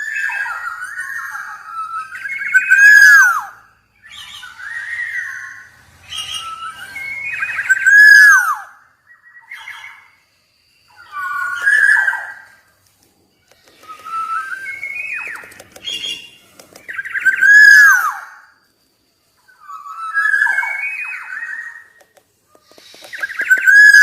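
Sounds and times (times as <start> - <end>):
oriole singing fluty whistles: 0.0 - 12.7, 13.7 - 18.7, 19.4 - 24.0.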